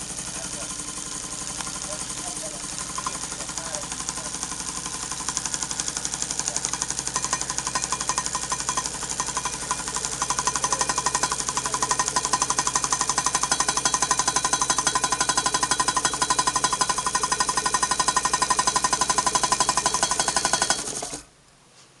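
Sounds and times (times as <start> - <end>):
engine mechanical ticking: 0.0 - 21.2.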